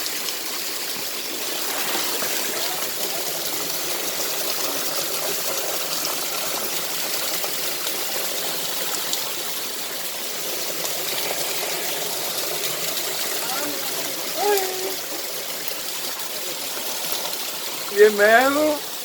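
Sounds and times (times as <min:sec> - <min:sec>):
waterfall rushing and splashing: 0:00.0 - 0:19.0.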